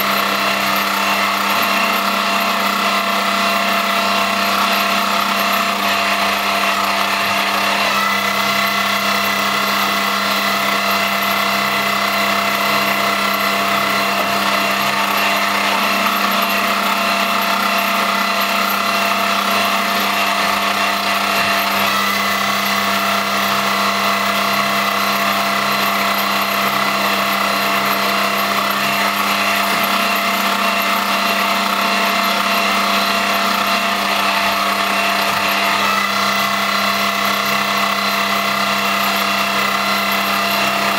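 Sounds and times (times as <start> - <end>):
lathe machine whine: 0.0 - 40.9.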